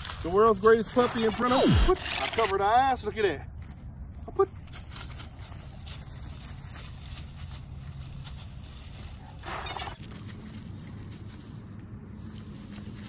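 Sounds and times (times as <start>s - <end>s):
paws rustling through dry leaves: 0.0s - 1.4s, 3.5s - 13.0s.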